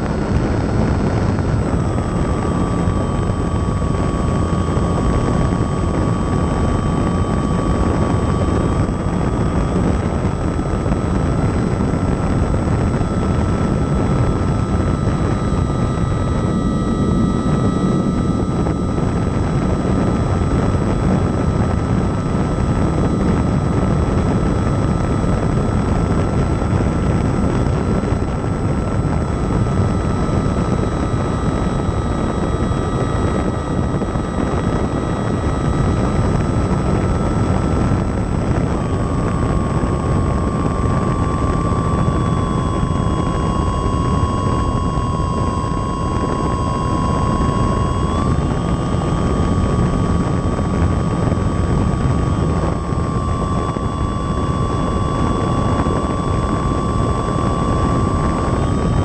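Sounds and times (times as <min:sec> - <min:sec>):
model airplane motor whine: 0:00.0 - 0:59.0.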